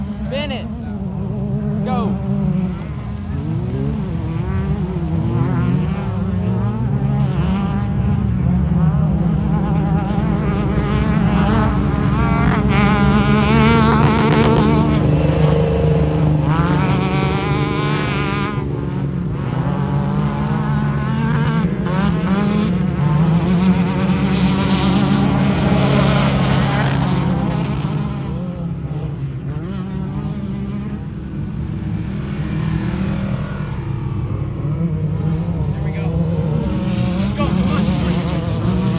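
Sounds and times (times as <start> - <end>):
race vehicle engine revving: 0.0 - 38.9.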